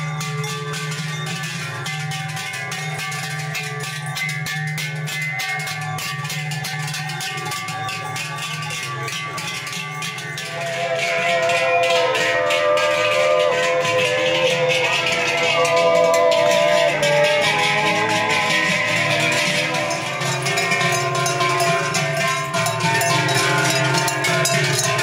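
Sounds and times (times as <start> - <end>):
cowbells clanging: 0.0 - 25.0.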